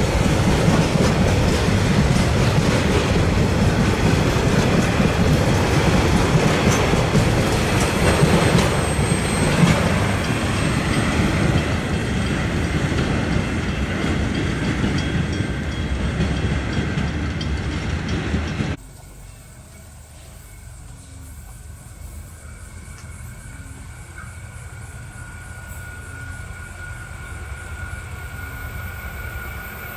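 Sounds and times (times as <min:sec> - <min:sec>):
train wheels clattering on rails: 0:00.0 - 0:29.9.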